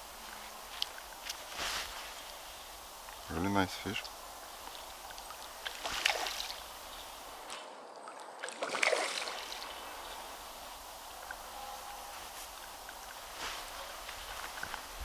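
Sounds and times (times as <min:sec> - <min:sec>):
water splashing and sloshing: 0:00.1 - 0:15.0.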